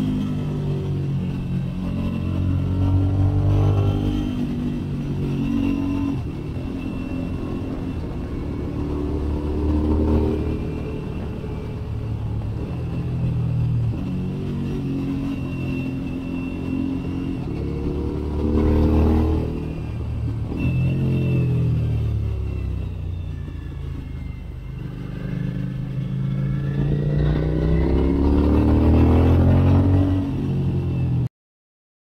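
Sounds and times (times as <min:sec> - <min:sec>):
motorcycle engine accelerating: 0:00.0 - 0:31.3.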